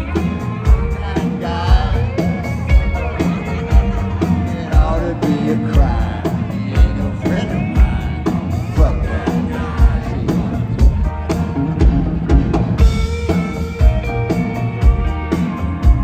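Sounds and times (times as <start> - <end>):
heavy bass drum beat: 0.0 - 16.0
rock band playing: 0.0 - 16.0.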